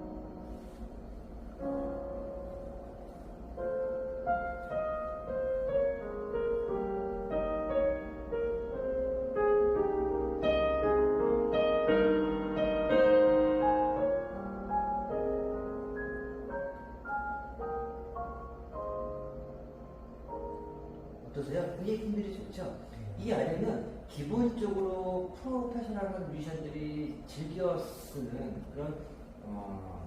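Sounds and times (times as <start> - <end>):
piano melody over held chords: 0.0 - 30.0.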